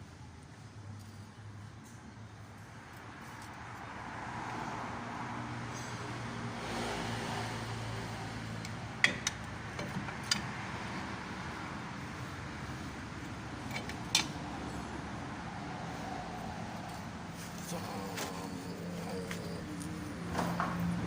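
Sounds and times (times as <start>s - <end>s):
low traffic hum: 0.0s - 21.0s.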